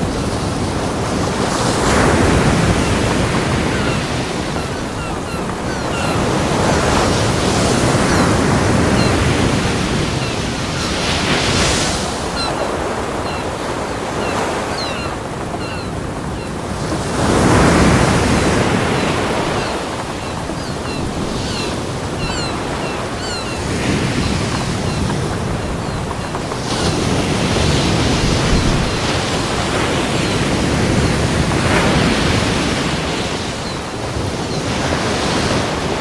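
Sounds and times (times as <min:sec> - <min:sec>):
ocean waves breaking on a beach: 0:00.0 - 0:36.0.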